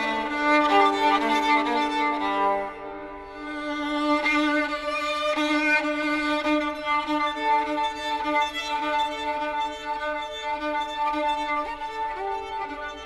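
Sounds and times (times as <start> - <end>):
solo violin bowed in double stops: 0.0 - 13.0.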